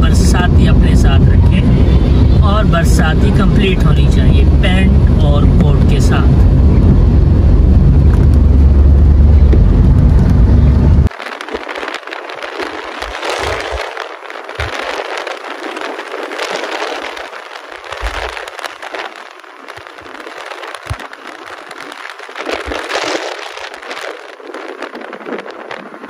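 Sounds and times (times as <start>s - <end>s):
car road noise at speed: 0.0s - 26.0s
wind buffeting microphone: 0.0s - 26.0s.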